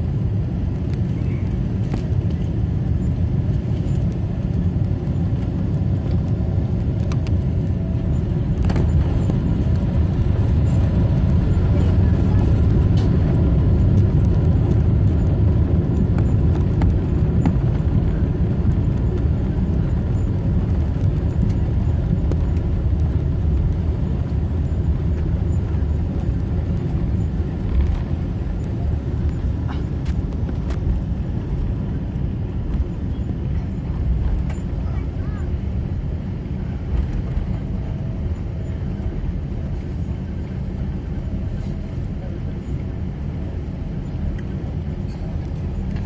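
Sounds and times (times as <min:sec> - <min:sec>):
airplane cabin rumble: 0:00.0 - 0:46.0.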